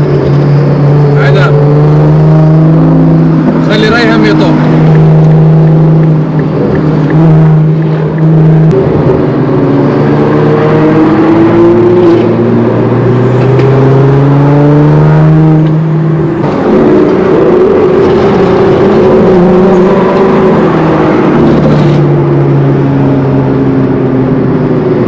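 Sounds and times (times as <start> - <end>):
car engines running loudly: 0.0 - 25.0.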